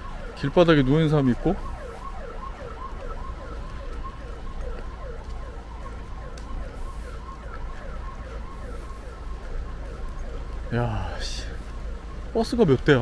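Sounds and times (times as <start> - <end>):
ambulance siren yelping: 0.0 - 13.0.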